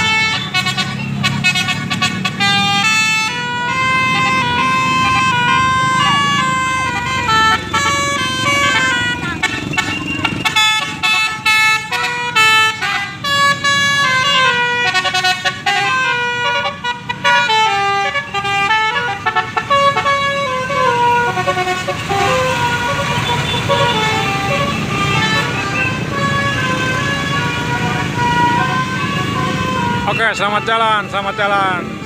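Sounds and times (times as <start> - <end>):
bus air horn playing tune: 0.0 - 31.9
bus engine rumble: 0.0 - 32.0.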